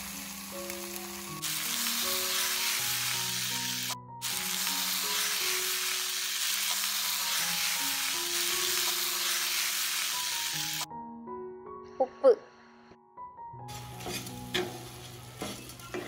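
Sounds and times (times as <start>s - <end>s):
meat sizzling in a pan: 0.0s - 10.9s, 13.7s - 16.0s.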